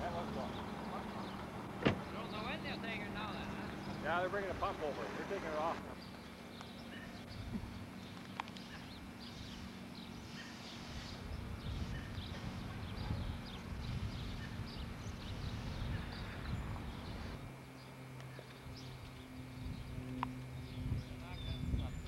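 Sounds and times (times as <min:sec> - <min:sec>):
low rumbling noise: 0:00.0 - 0:08.2, 0:10.9 - 0:22.0
small birds chirping: 0:00.0 - 0:22.0.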